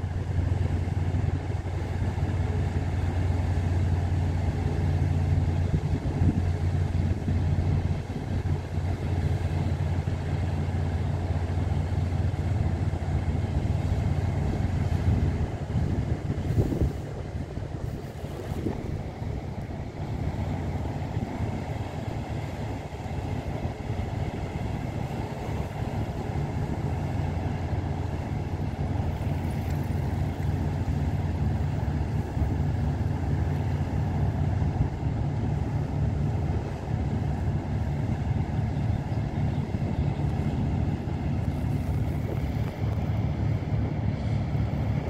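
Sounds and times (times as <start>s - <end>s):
boat diesel engine droning: 0.0s - 45.0s.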